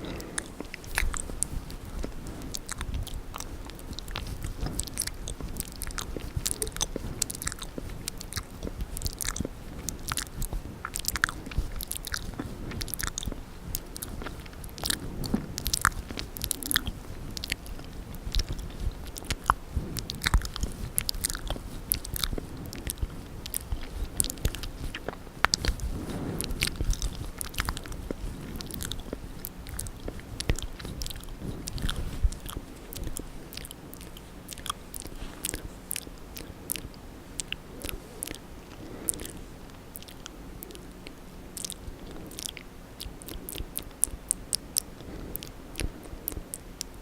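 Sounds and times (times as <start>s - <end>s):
wet mouth clicks and smacks: 0.0s - 47.0s.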